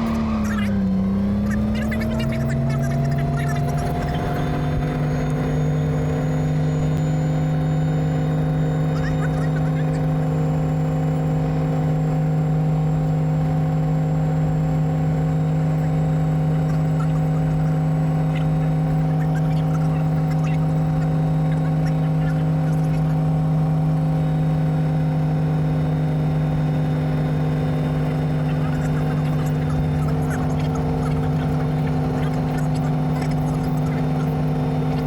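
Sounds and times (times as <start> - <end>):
helicopter engine humming: 0.0 - 35.0.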